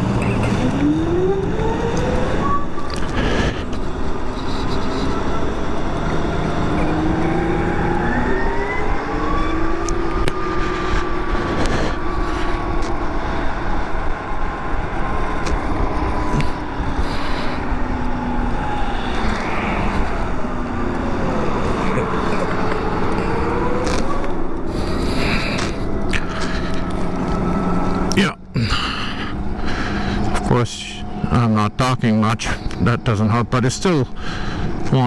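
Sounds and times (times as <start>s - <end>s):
electric motor whine: 0.0s - 28.2s
tyre and road noise: 0.0s - 35.0s.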